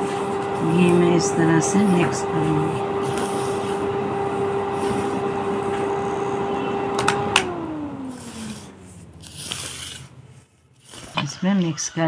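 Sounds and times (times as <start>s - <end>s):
small electric motor whining: 0.0s - 11.2s.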